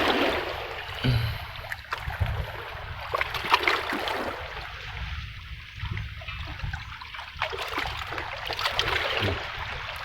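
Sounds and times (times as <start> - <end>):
seawater lapping and splashing: 0.0 - 10.0.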